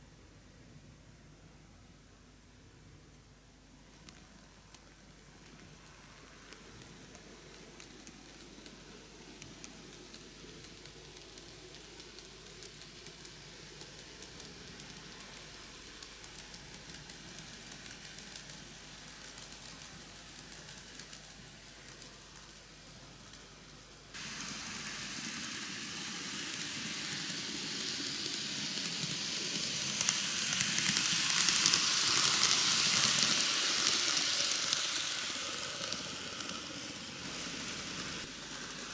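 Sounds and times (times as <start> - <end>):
model train wheels rattling: 4.1 - 38.9.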